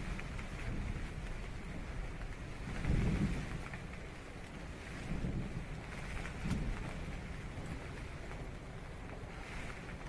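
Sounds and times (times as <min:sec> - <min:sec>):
rain on a tent: 0:00.0 - 0:10.0.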